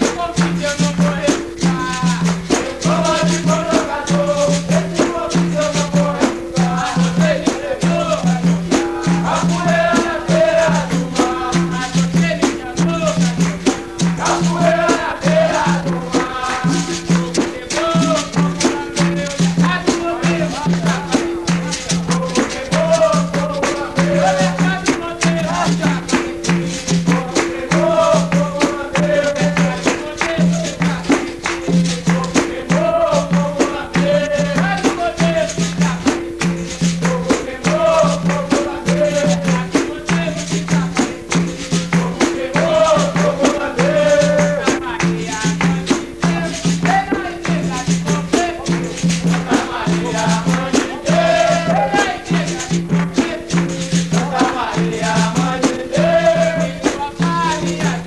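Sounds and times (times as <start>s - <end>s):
berimbau: 0.0s - 58.0s
hand drum rhythm: 0.0s - 58.0s
person singing: 0.0s - 58.0s
tambourines: 0.0s - 58.0s.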